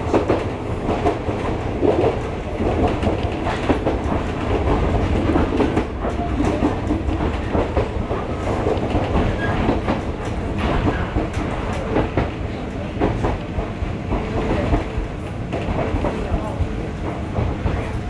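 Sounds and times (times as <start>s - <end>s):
railcar low rumble: 0.0s - 18.0s.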